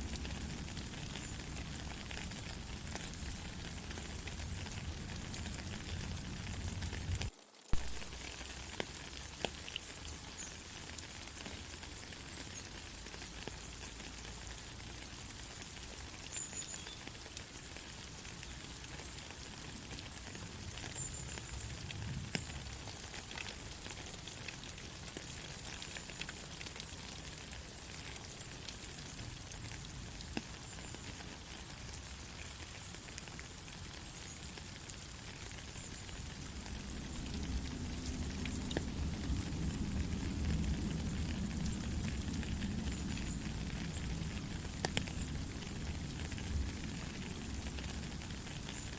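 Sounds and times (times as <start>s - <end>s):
raindrops tapping: 0.0s - 48.9s
steady rain hiss: 0.0s - 48.9s.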